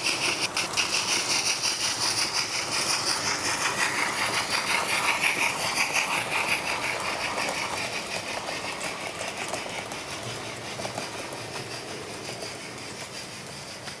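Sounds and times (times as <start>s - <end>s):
model train wheels clattering: 0.0s - 14.0s.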